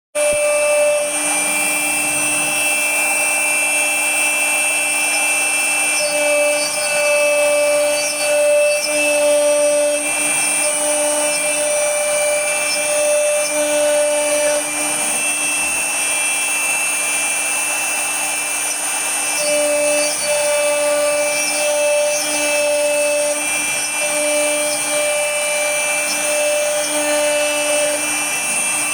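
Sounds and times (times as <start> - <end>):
wood router carving wood: 0.2 - 28.9.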